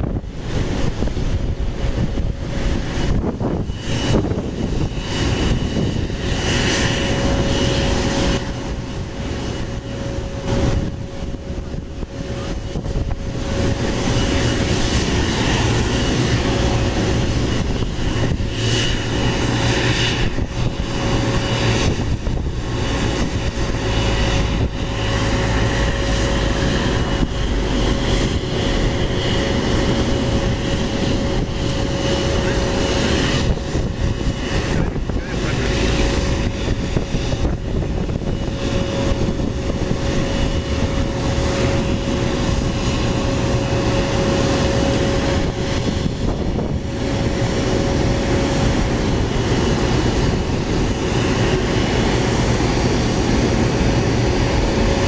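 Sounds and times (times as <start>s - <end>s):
jet engines idling: 0.0s - 55.0s
wind buffeting microphone: 0.0s - 55.0s.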